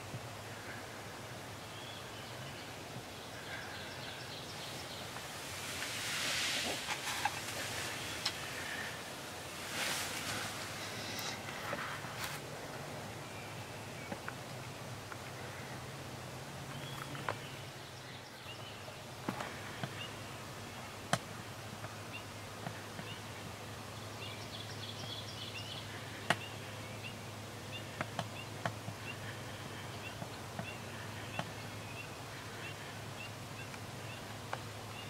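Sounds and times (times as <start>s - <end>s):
low steady hum: 0.0s - 35.0s
songbirds chirping: 0.0s - 35.0s.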